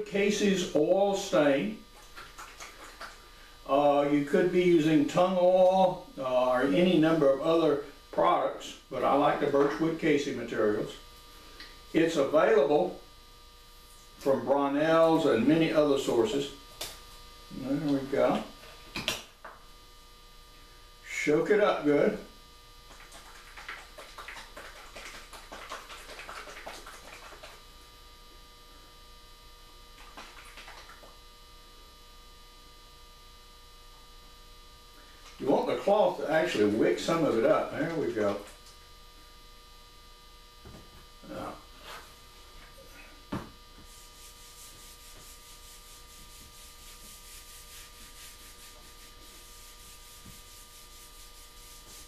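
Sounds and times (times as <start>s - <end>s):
faint electrical hum: 0.0s - 52.0s.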